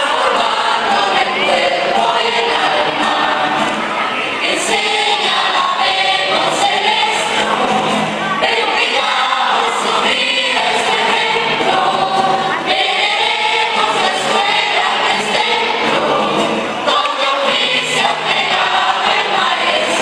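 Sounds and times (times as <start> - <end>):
mixed choir singing: 0.0 - 20.0.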